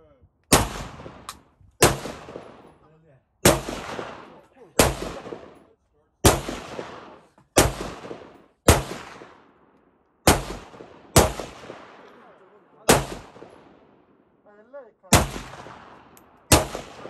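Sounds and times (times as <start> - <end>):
gunshots with echo: 0.5 - 2.8, 3.4 - 9.5, 10.2 - 13.9, 15.1 - 17.0.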